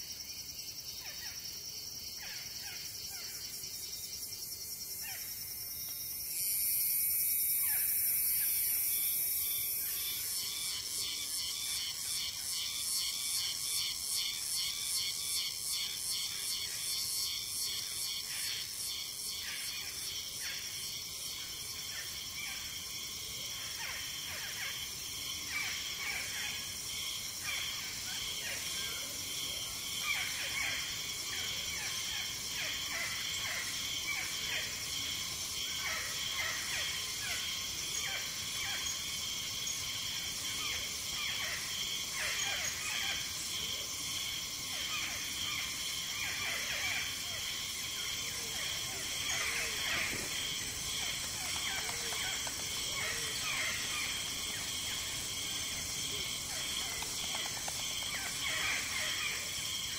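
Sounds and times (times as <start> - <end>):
insect chorus with cicadas: 0.0 - 59.9.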